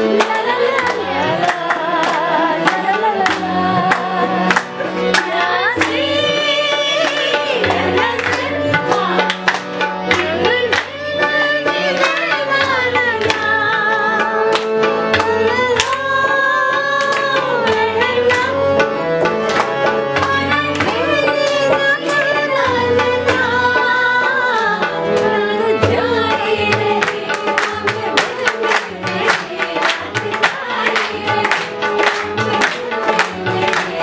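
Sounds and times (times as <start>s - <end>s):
group of voices singing: 0.0s - 34.0s.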